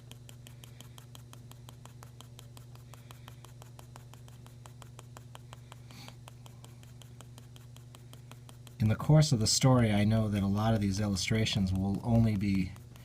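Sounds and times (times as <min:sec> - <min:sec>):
pencil strokes on paper: 0:00.0 - 0:13.0
steady low hum: 0:00.0 - 0:13.0.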